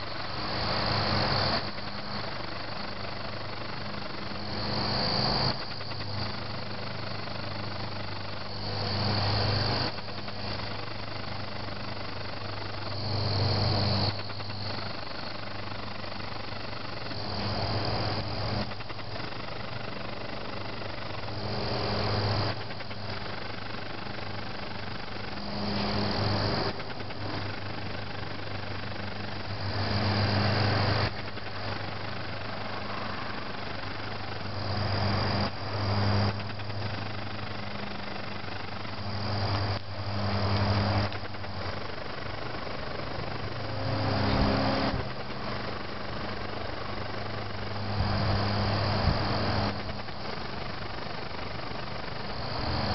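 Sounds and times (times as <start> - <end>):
crickets chirping: 0.0 - 52.9
steady low hum: 0.0 - 52.9.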